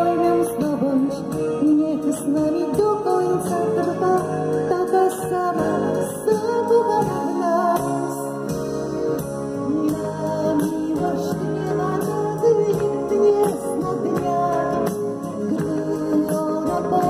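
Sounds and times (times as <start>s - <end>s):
band with steady beat: 0.0s - 17.0s
woman singing: 0.0s - 17.0s.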